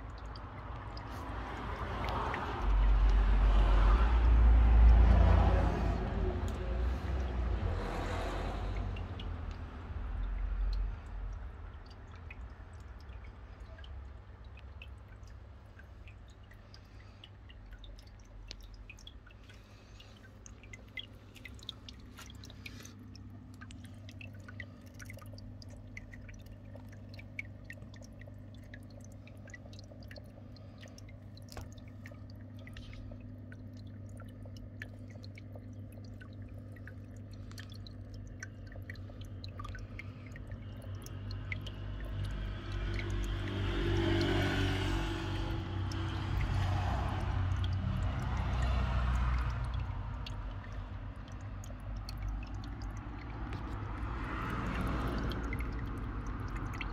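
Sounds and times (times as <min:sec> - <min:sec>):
low hum: 0:00.0 - 0:56.9
water trickling and dripping: 0:00.0 - 0:56.9.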